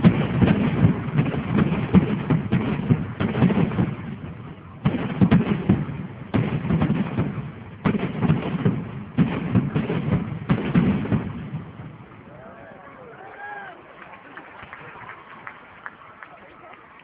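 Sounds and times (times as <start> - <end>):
fireworks banging: 0.0 - 17.0
fireworks crackling: 0.0 - 17.0.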